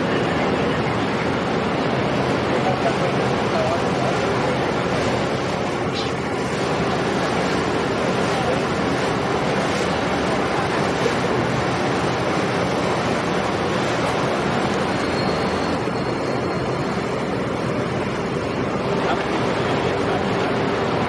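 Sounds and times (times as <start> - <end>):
rushing water: 0.0 - 21.0
wind: 0.0 - 21.0.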